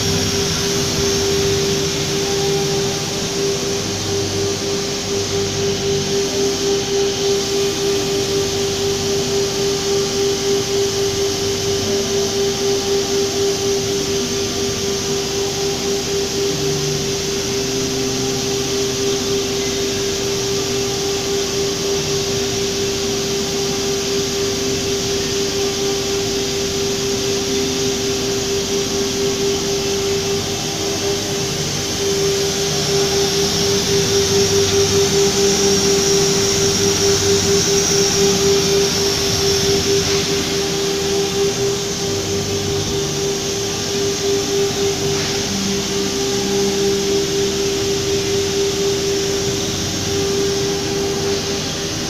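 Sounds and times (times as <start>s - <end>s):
cnc router whine: 0.0s - 52.0s
constant rushing noise: 0.0s - 52.0s.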